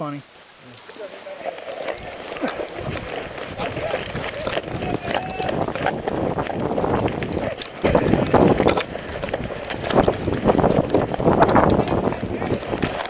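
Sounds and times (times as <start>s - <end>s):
wind buffeting microphone: 1.6s - 13.0s.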